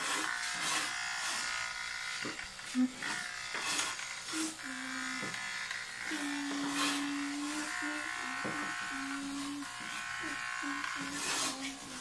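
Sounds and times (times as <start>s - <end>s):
clippers swishing through hair: 0.0s - 12.0s
electric hair clippers buzzing: 0.0s - 12.0s.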